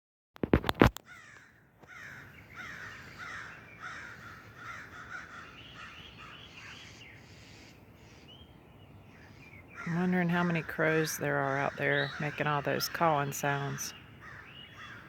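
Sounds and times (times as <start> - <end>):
crows cawing: 1.0 - 8.3, 9.1 - 15.0.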